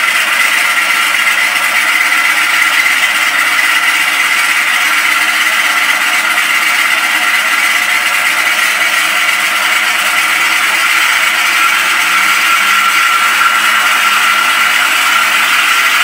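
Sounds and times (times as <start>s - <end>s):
simulated radial engines through speaker: 0.0s - 16.0s.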